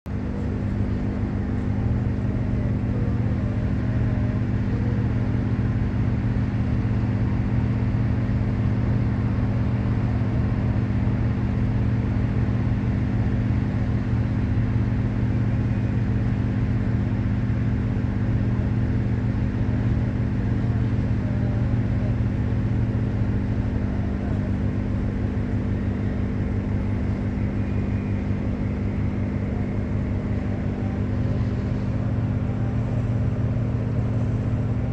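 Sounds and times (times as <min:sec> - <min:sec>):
boat engine droning: 0:00.1 - 0:34.9.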